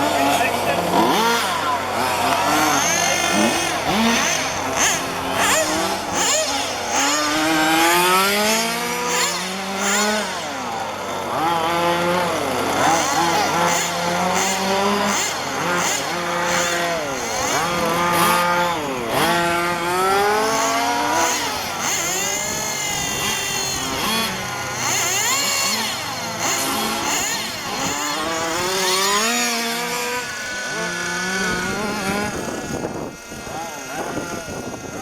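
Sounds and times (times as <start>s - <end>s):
small two-stroke engines revving: 0.0s - 35.0s.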